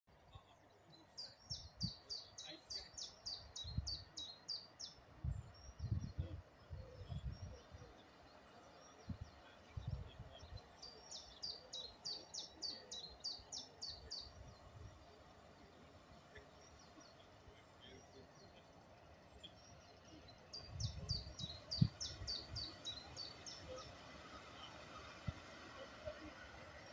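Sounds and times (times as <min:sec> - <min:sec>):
small songbird singing: 0:00.1 - 0:26.9.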